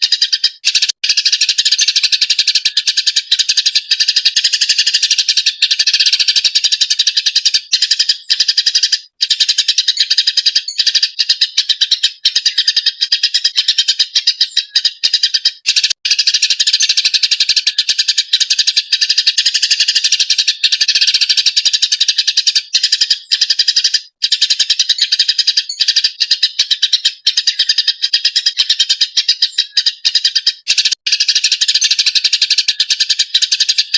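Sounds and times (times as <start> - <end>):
sparrow chirping: 0.0 - 33.9.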